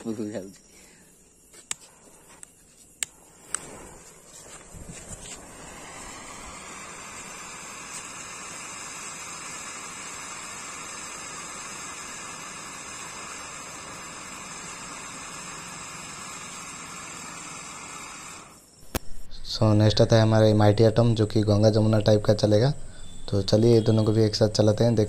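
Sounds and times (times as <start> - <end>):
firework fountain hissing: 2.9 - 25.0.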